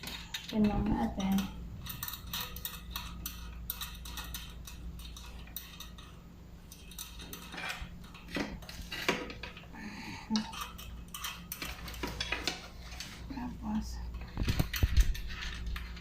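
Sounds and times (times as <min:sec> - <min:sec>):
metal parts clinking and rattling: 0:00.0 - 0:16.0.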